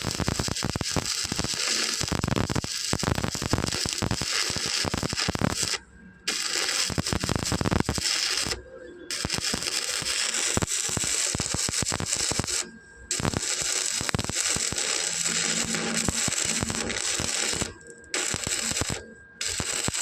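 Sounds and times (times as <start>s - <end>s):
arc welding crackling: 0.0s - 20.0s.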